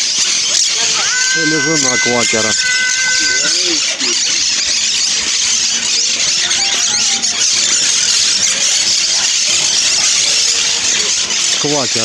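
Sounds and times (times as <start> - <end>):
parakeets screeching and chattering: 0.0 - 12.0.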